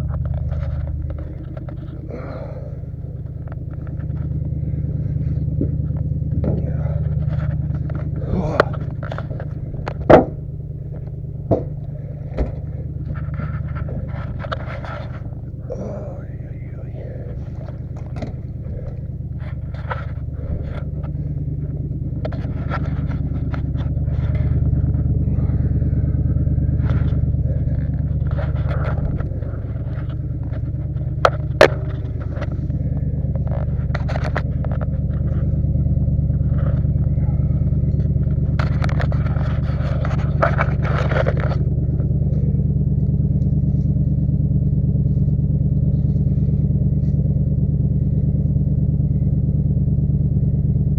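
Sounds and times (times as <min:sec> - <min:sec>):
scrapes and clicks: 0:00.0 - 0:49.4
truck engine running under load: 0:00.0 - 0:50.9.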